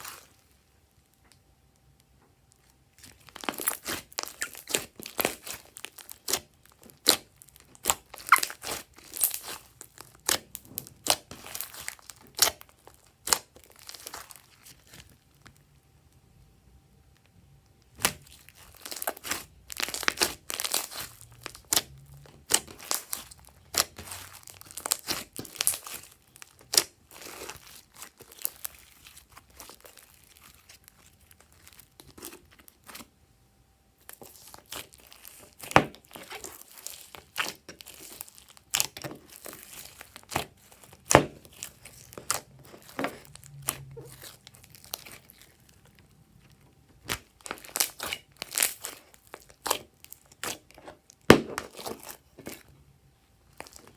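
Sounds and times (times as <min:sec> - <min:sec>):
slime squishing with clicks: 0:00.0 - 0:33.2, 0:34.0 - 0:53.9.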